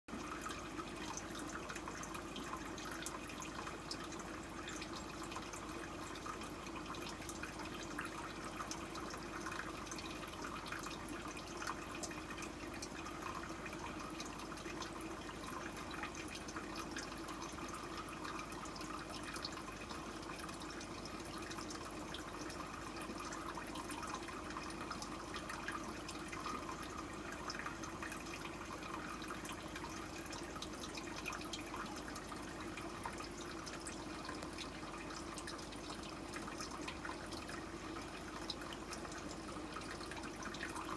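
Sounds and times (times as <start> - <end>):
aquarium water trickling and bubbling: 0.1 - 40.9
tiny water drips and pops: 0.1 - 40.9.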